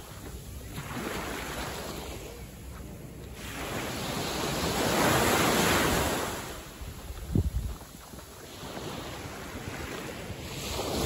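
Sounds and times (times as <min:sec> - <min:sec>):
small waves washing on sand: 0:00.0 - 0:11.0.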